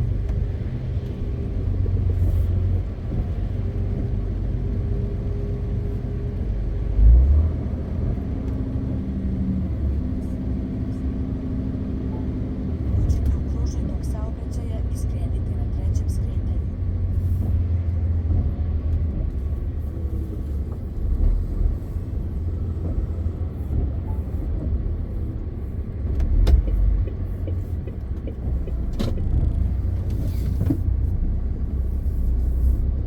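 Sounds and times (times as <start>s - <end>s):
road noise: 0.0s - 33.0s
truck diesel engine rumbling: 0.0s - 33.0s.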